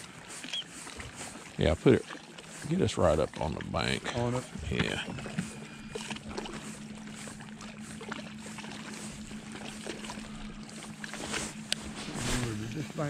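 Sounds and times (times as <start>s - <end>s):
electric trolling motor humming: 0.0s - 13.0s
light water noise: 0.0s - 13.0s.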